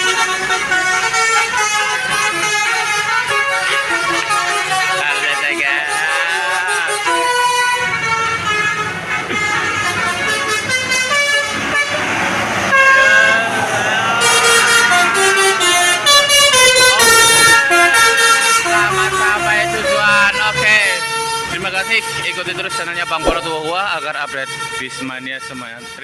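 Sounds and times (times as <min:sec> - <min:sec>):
multi-tone air horn melody: 0:00.0 - 0:12.1, 0:12.7 - 0:13.6, 0:14.2 - 0:24.9
bus engine running: 0:00.0 - 0:21.6.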